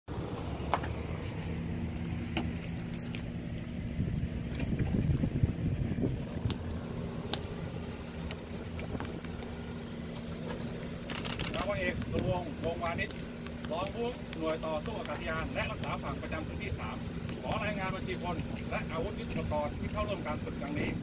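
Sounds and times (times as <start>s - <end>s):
vehicle engine idling: 0.1s - 21.0s.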